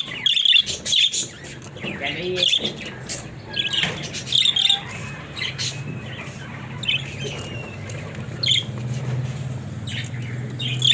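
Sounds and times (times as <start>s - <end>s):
budgerigars chirping and squawking: 0.0s - 10.9s.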